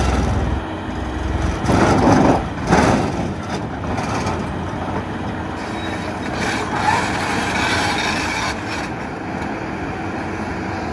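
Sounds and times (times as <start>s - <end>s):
diesel engine: 0.0s - 10.9s.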